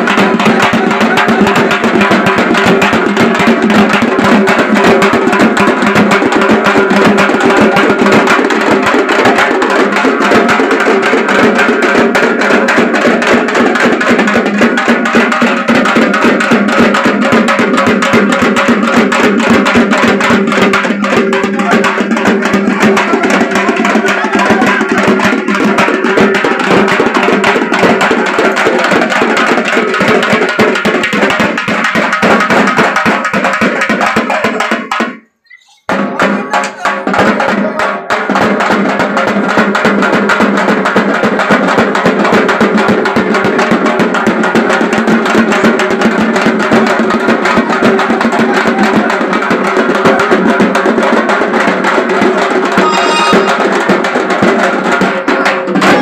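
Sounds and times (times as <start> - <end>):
fast dense drumming: 0.0 - 35.2, 35.8 - 56.0.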